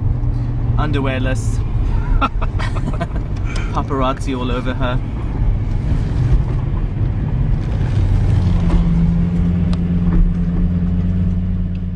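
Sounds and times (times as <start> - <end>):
car engine from inside cabin: 0.0 - 11.9.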